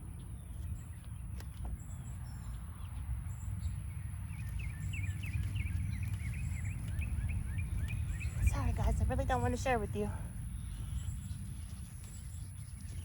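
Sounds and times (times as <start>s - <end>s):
bird chirping: 0.0s - 13.0s
outdoor background rumble: 0.0s - 13.0s.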